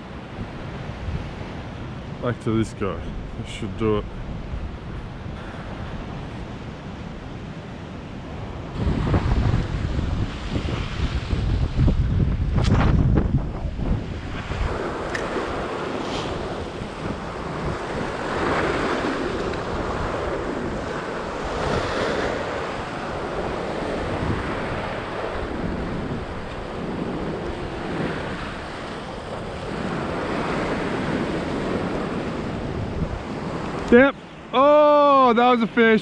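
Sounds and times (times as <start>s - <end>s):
ocean surf on rocks: 0.0s - 36.0s
wind buffeting microphone: 2.9s - 34.5s.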